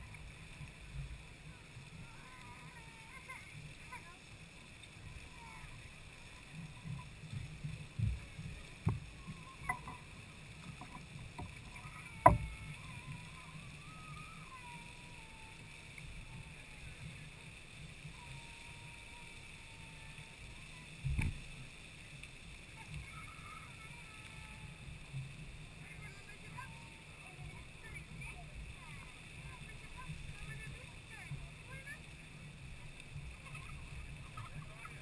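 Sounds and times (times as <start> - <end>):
geyser jet rushing hiss: 0.0 - 35.0.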